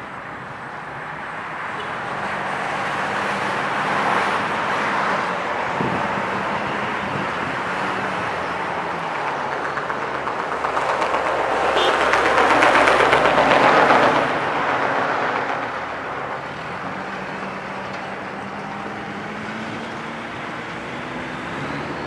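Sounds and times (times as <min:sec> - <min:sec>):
vehicle engine hum: 0:00.0 - 0:22.0
rushing noise: 0:02.5 - 0:22.0.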